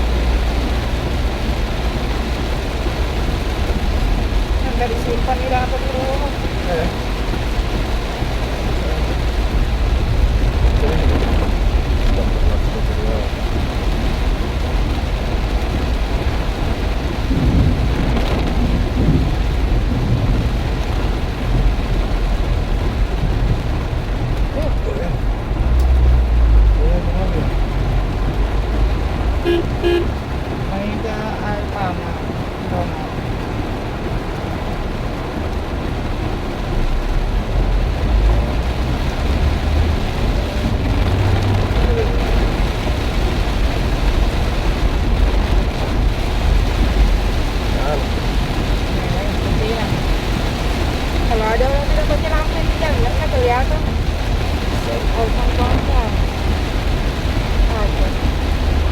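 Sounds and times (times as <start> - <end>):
deep rumble: 0.0 - 58.9
heavy rain pouring: 0.0 - 58.9.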